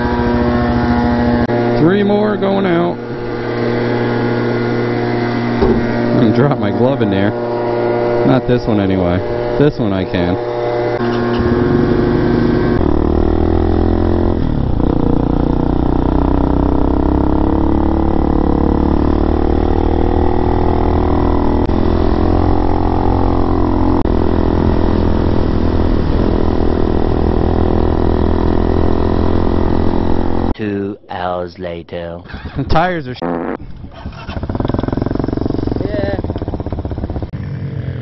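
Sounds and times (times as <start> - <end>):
motorcycle engine running: 0.0 - 30.6, 32.3 - 38.0.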